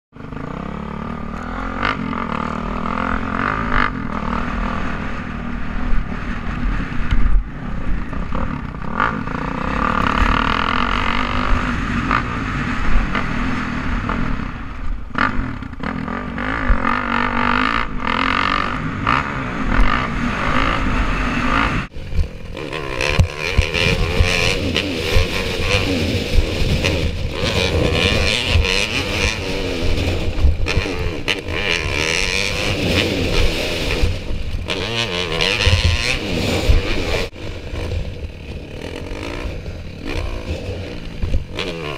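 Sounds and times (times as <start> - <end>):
dirt bike engine revving: 0.1 - 41.9
wind noise: 1.9 - 41.9.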